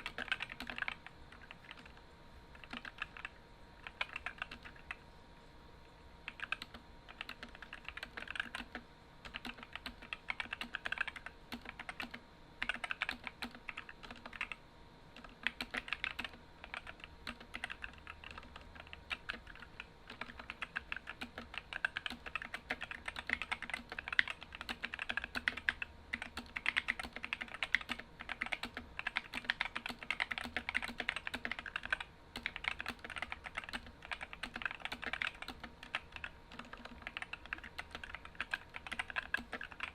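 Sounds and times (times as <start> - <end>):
mechanical keyboard keystrokes clacking: 0.0 - 2.0, 2.6 - 4.9, 6.3 - 14.6, 15.2 - 39.9.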